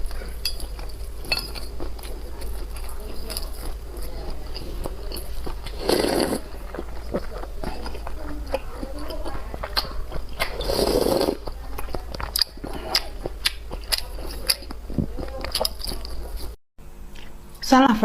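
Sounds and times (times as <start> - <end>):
chewing and biting: 0.0 - 16.6.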